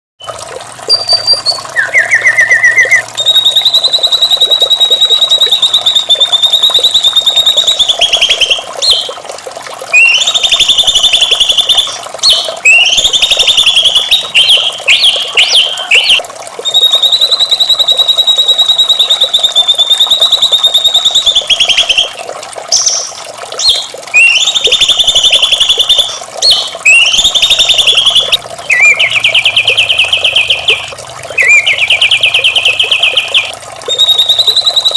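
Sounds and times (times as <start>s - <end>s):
bird singing rattling trills: 0.9s - 9.2s, 9.9s - 34.9s.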